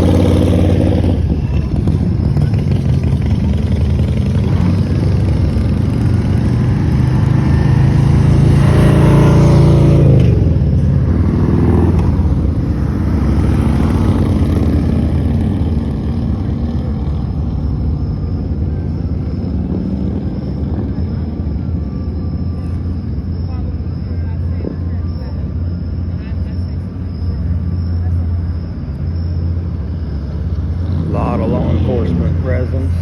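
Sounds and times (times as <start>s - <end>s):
vehicle engine running: 0.0s - 33.0s
vehicle passing by: 0.0s - 33.0s
wind and road noise: 0.0s - 33.0s.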